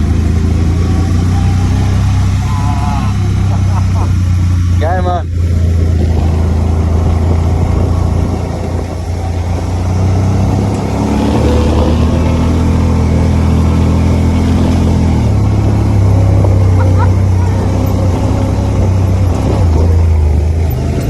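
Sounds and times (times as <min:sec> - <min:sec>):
engine running under load: 0:00.0 - 0:21.0.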